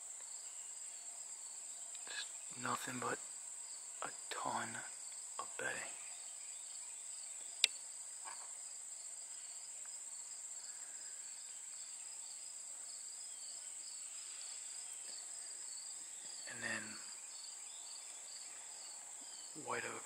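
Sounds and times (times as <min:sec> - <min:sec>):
insect chorus buzzing and trilling: 0:00.0 - 0:20.0.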